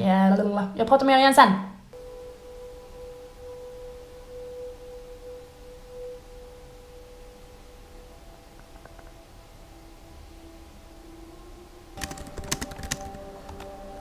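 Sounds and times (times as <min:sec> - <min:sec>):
faint steady pure tone: 0:01.8 - 0:14.0.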